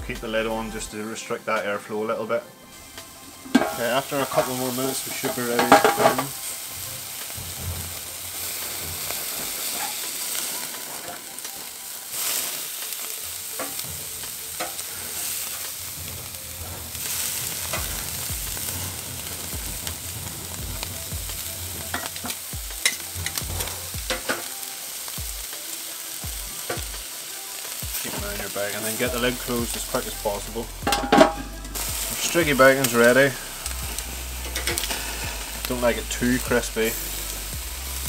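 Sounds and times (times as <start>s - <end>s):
meat sizzling on a grill: 0.0s - 38.0s.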